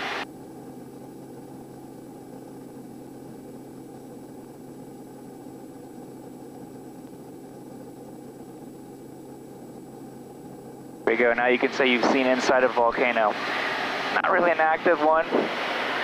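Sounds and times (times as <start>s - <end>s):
turboprop engine drone: 0.0s - 16.0s.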